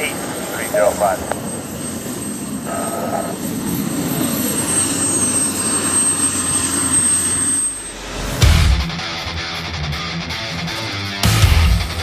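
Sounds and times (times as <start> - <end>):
helicopter turbine running: 0.0 - 11.1
falling pitch whine: 0.9 - 12.0.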